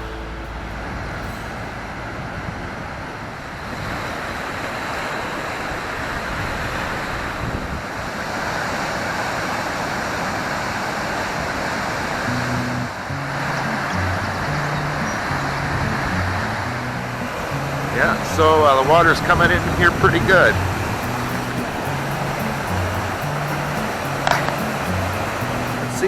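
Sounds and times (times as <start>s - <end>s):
river rushing through dam: 2.4s - 26.0s.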